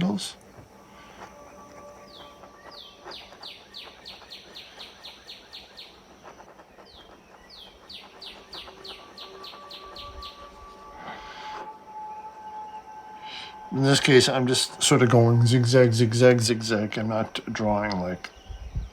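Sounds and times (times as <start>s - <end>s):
songbird whistling: 0.0s - 17.1s.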